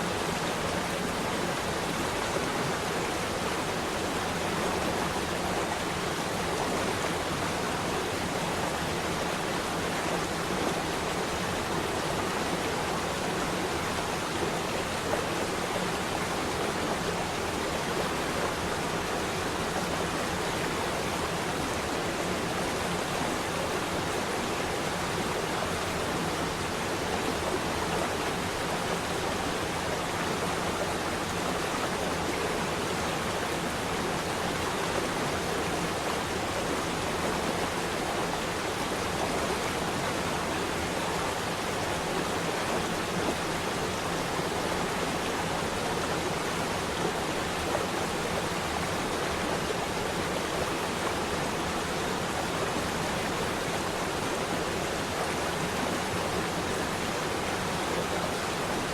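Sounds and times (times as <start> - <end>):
running water: 0.0 - 58.9.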